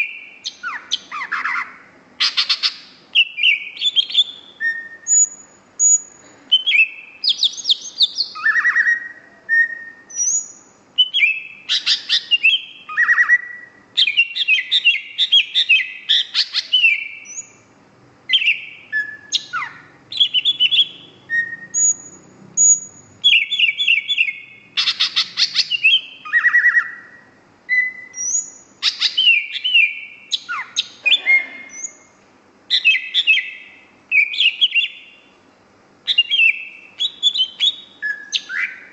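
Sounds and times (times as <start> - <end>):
bird singing whistled trills: 0.0 - 17.7, 18.3 - 32.1, 32.7 - 35.3, 36.0 - 38.9.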